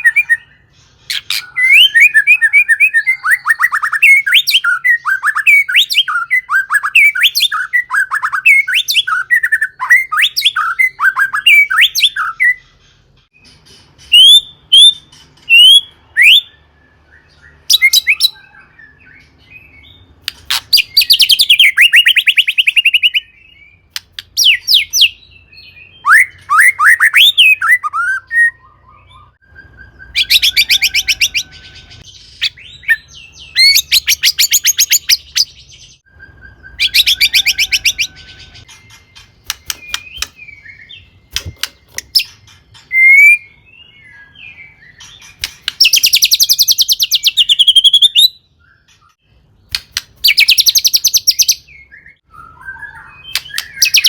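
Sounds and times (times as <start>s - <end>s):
bird whistled song: 0.0s - 54.0s.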